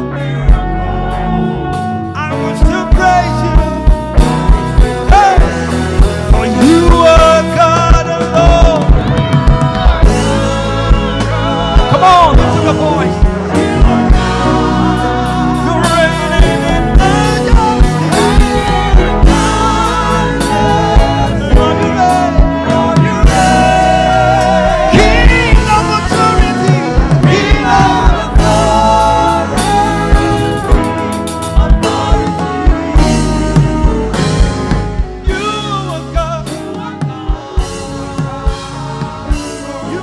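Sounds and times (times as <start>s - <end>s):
person singing: 0.0s - 40.0s
steady drum beat: 0.0s - 40.0s
worship band playing: 0.0s - 40.0s.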